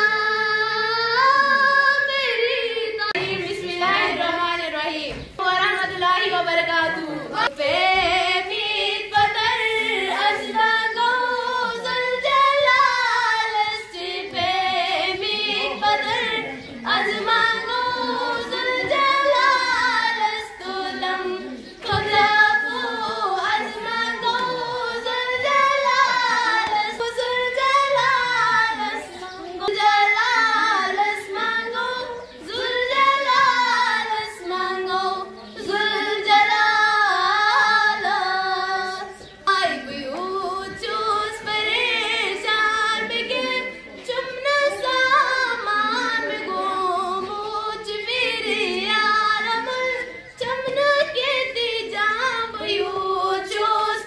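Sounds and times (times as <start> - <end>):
girl singing: 0.0 - 54.0.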